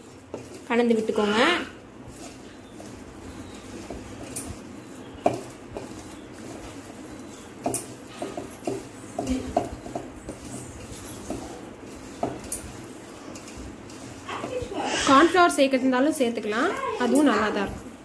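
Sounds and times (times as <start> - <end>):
soft squishing of food mixed by hand: 0.0 - 18.0.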